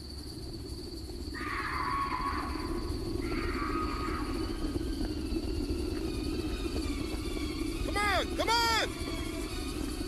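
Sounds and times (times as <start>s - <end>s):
low rough buzzing drone: 0.0s - 10.0s.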